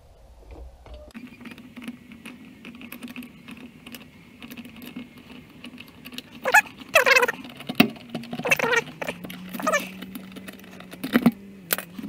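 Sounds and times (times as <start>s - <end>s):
tire bar clicking on wheel rim: 1.4s - 12.0s.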